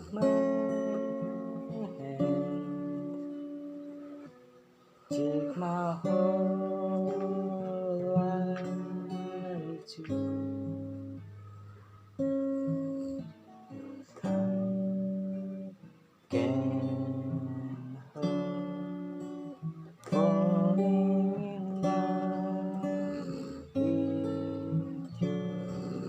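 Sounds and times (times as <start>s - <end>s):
acoustic guitar slow chords: 0.0s - 26.0s.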